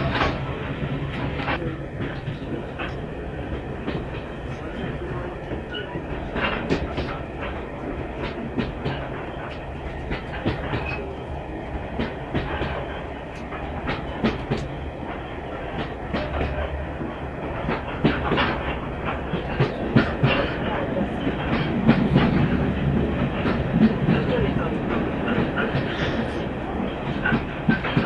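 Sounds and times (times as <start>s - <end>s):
wheels clicking over rail joints: 0.0s - 11.2s, 11.9s - 28.0s
train carriage rumble: 0.0s - 28.0s.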